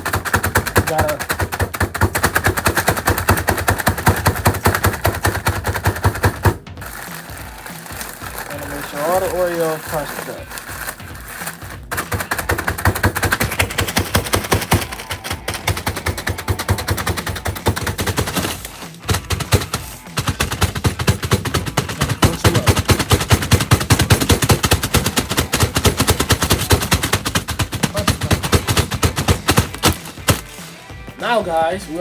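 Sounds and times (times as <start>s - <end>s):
cookies pounded in plastic bag: 0.0s - 31.2s.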